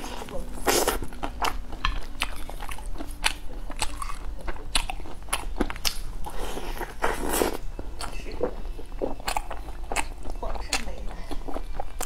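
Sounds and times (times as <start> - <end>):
person chewing crunchy bun: 0.0 - 10.4.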